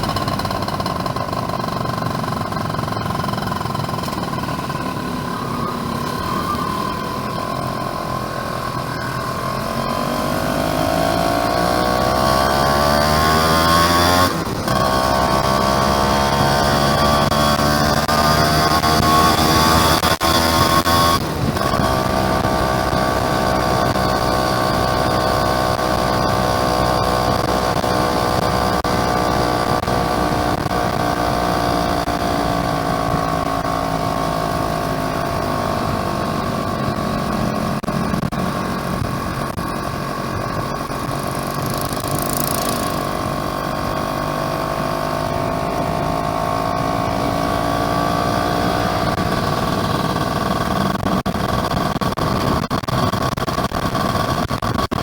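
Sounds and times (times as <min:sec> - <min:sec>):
two-stroke motorcycle engine: 0:00.0 - 0:55.0.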